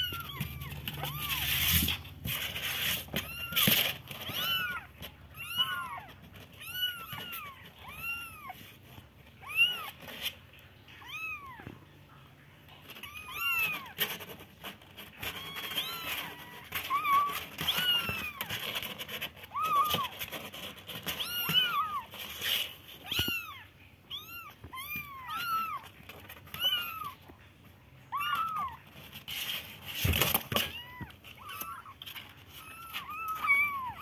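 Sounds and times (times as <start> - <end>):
kittens meowing: 0.0 - 2.2, 3.0 - 10.1, 10.8 - 11.8, 12.7 - 14.3, 15.1 - 20.3, 21.0 - 22.2, 22.9 - 27.4, 28.0 - 28.9, 30.4 - 34.0.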